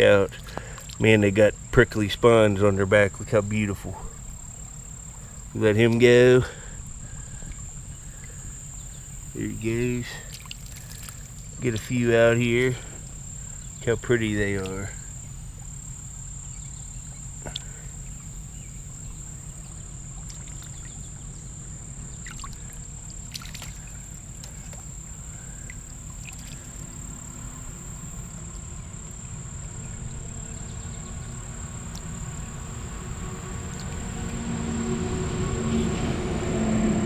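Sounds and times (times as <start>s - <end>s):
muffled creek water rumble: 0.0s - 37.0s.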